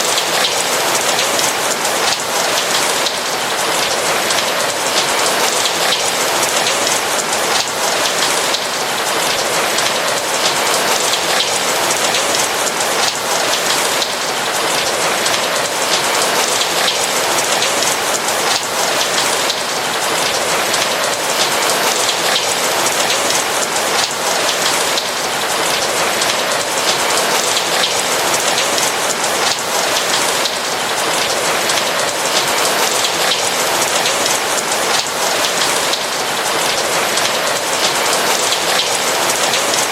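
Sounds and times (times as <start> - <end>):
rain hissing: 0.0 - 39.9
small raindrop ticks: 0.0 - 39.9.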